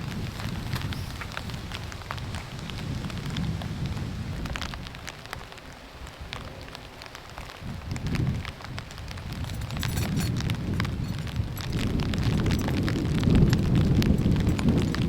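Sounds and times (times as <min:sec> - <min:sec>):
hard rain: 0:00.0 - 0:15.0
wind gusting on microphone: 0:00.0 - 0:15.0.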